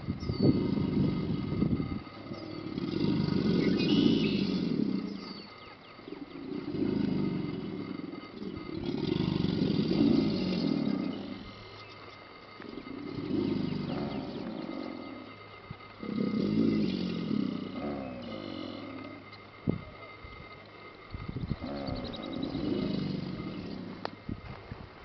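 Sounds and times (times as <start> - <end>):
alligators bellowing: 0.0 - 24.4.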